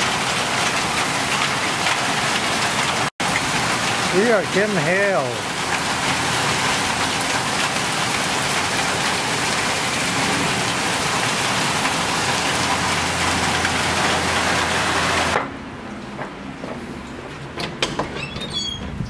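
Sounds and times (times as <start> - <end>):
heavy rain and hail on concrete: 0.0 - 15.4.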